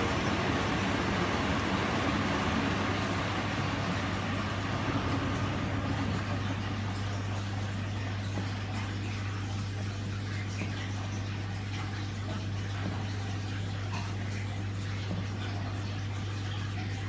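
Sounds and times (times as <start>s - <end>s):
washing machine low hum: 0.0s - 17.0s
water swishing in washing machine: 0.0s - 17.0s.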